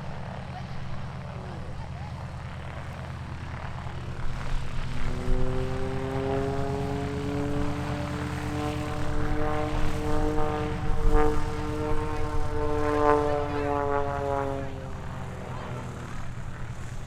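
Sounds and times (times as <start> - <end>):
propeller plane engine buzzing: 0.0 - 17.0.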